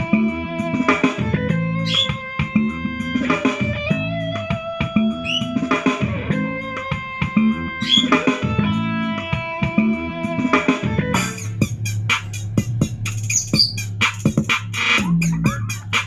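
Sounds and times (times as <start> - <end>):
guitar music through speaker: 0.0 - 16.0.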